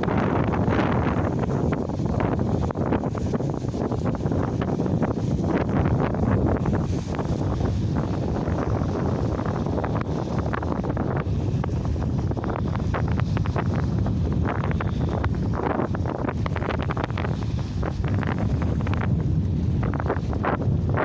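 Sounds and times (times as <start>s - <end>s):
sea waves splashing: 0.0s - 21.0s
wind buffeting microphone: 0.0s - 21.0s.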